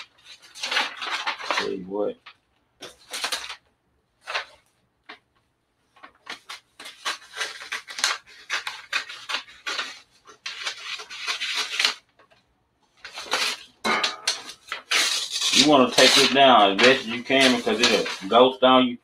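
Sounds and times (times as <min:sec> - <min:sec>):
paper crinkling against a towel: 0:00.0 - 0:05.2, 0:05.8 - 0:18.8.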